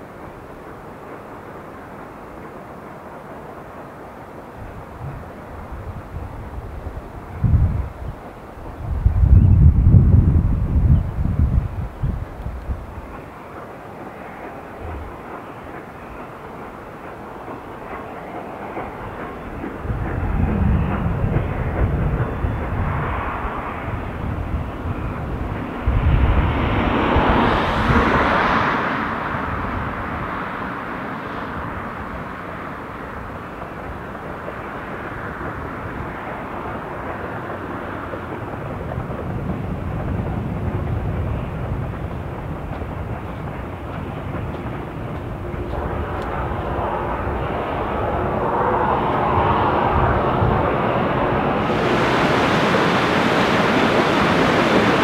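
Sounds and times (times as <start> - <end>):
steam train rumbling: 0.0 - 55.0.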